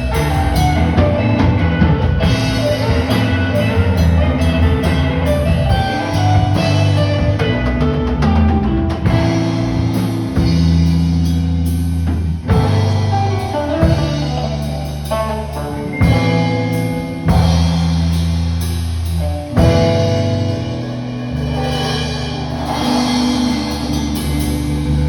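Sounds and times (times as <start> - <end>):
drum kit beat: 0.0 - 25.0
rock band music: 0.0 - 25.0.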